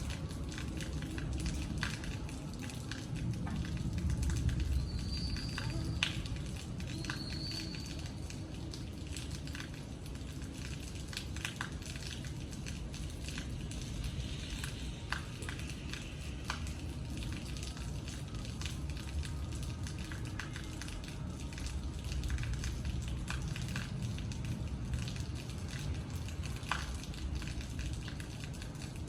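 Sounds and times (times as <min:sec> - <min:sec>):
drips and taps: 0:00.0 - 0:29.0
rain patter: 0:00.0 - 0:29.0.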